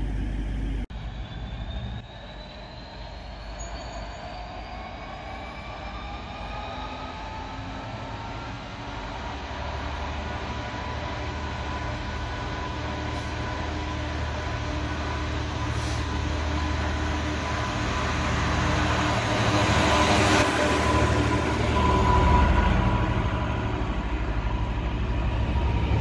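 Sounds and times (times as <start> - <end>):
train approaching: 0.0 - 26.0.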